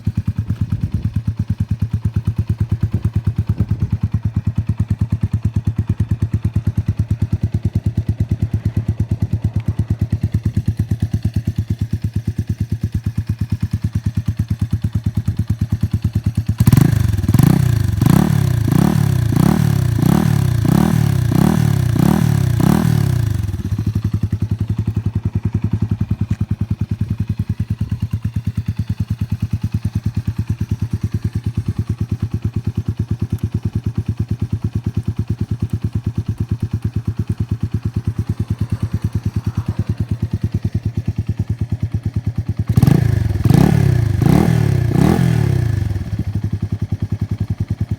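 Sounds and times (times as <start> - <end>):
motorcycle engine idling and revving: 0.0 - 47.9.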